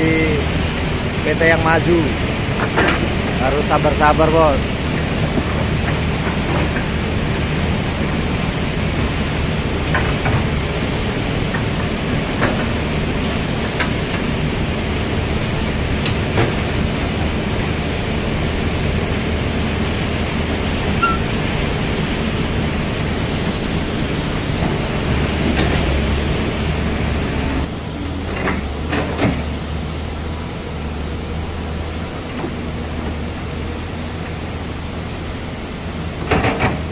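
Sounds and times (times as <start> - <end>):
excavator diesel engine: 0.0 - 36.9.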